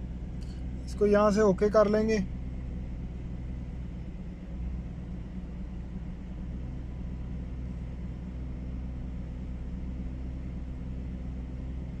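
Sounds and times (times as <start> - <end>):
car engine high idle hum: 0.0 - 12.0.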